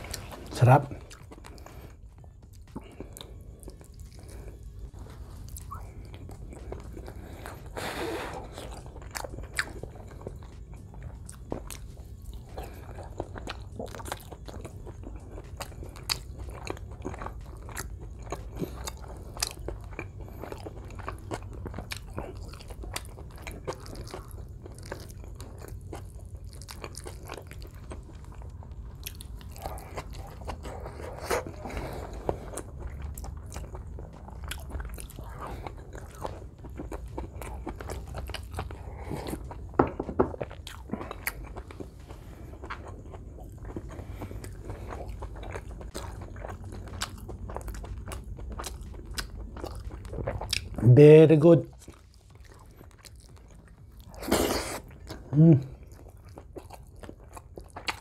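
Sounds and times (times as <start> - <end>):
chewing with wet mouth clicks: 0.0 - 7.8, 8.4 - 50.8, 51.7 - 58.0.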